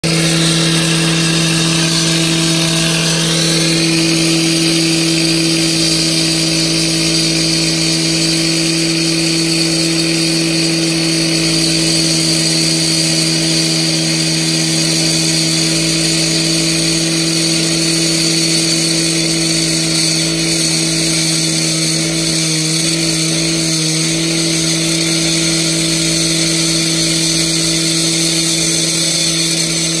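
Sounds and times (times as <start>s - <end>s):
blade grinding whine: 0.0s - 30.0s
cut-off saw engine at full throttle: 0.0s - 30.0s.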